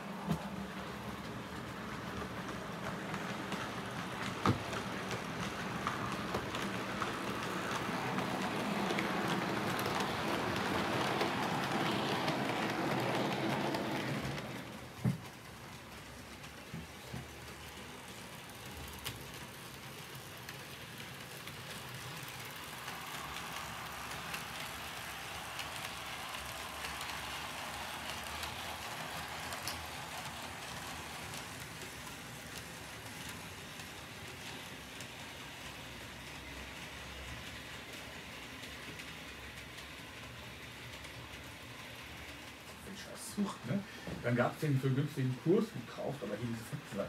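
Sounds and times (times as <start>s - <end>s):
model train wheels rattling on rail: 0.3s - 47.0s.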